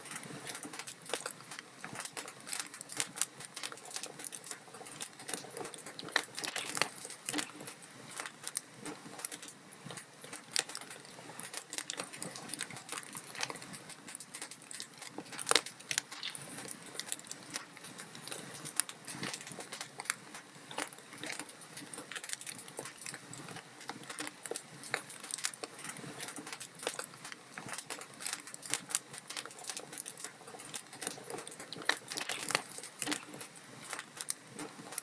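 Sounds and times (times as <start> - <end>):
log fire crackling: 0.0 - 35.0
soft steady hiss: 0.0 - 35.0.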